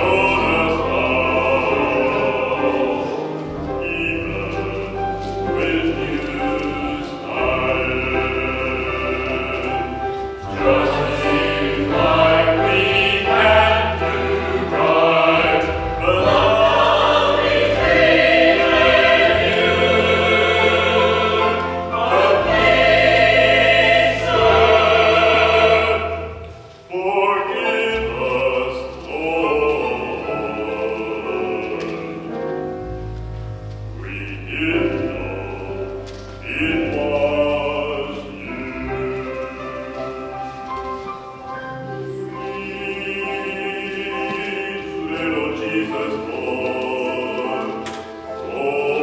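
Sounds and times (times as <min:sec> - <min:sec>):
church choir singing: 0:00.0 - 0:33.1, 0:33.9 - 0:49.0.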